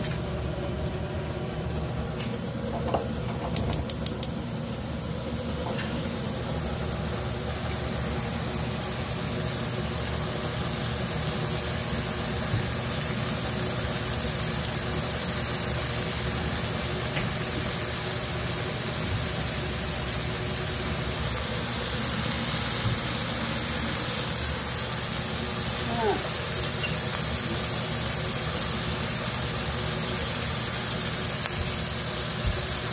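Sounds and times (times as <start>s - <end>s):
beef sizzling in a frying pan: 3.9s - 32.9s.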